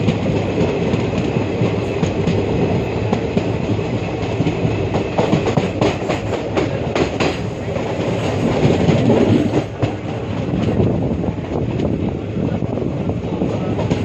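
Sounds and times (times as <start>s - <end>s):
train wheels rumbling on rails: 0.0s - 14.0s
wheels clacking over track joints: 0.0s - 14.0s.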